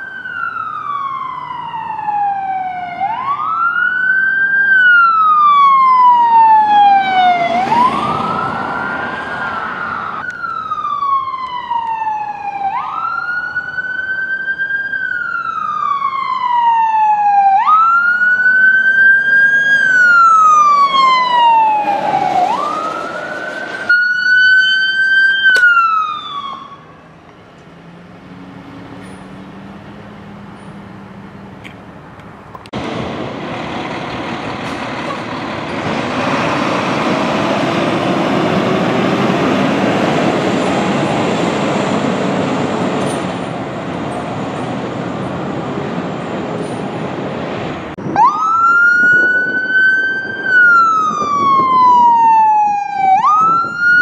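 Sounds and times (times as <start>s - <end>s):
emergency siren wailing: 0.0s - 31.4s, 34.2s - 46.5s, 47.9s - 54.0s
fire truck engine rushing: 0.0s - 54.0s.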